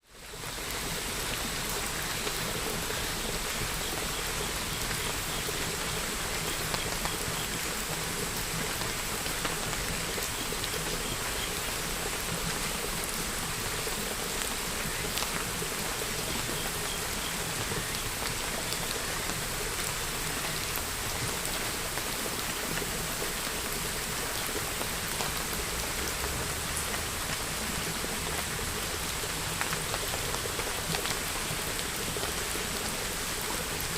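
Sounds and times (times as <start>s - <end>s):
steady rain hiss: 0.0s - 33.9s
raindrops ticking on a surface: 0.1s - 33.9s.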